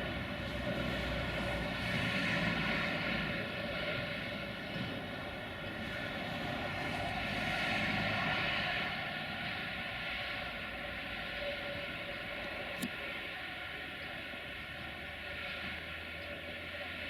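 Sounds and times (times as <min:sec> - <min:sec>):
freight train locomotive drone: 0:00.0 - 0:17.0.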